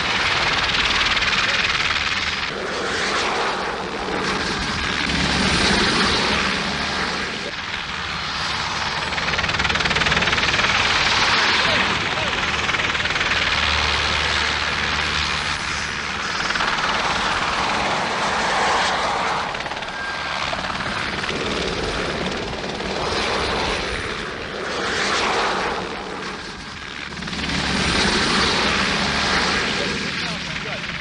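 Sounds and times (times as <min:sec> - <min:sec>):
helicopter engine and rotor noise: 0:00.0 - 0:31.0.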